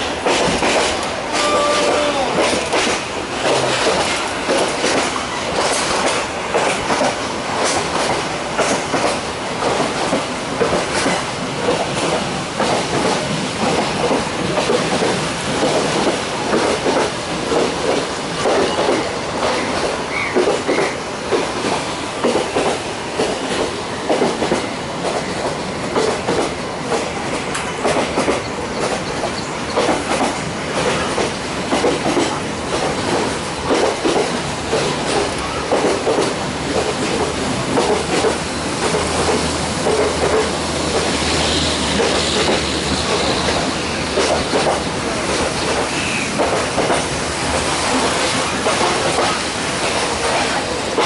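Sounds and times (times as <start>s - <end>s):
train rumbling on track: 0.0s - 51.0s
wheels clacking over rail joints: 0.0s - 51.0s.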